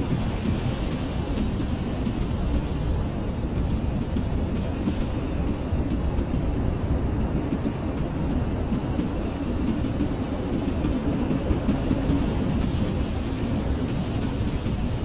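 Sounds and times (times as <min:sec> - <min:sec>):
blizzard wind blowing: 0:00.0 - 0:15.0.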